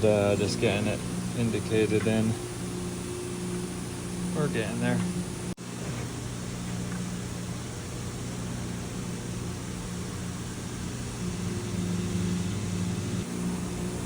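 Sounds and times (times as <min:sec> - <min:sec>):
grinder motor humming: 0:00.0 - 0:14.0.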